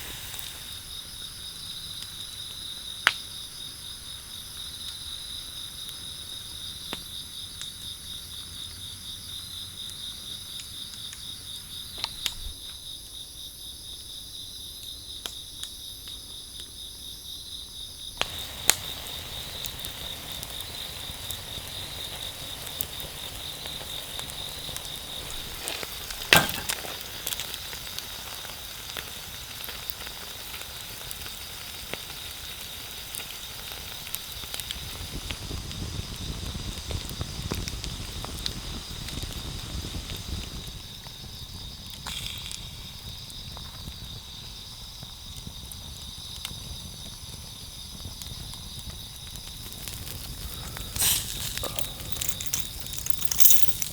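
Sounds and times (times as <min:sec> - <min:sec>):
campfire crackling and popping: 0:00.0 - 0:12.4, 0:18.2 - 0:53.9
loud crack of fire: 0:00.0 - 0:12.6, 0:18.2 - 0:53.9
night insects chirping: 0:00.0 - 0:53.9.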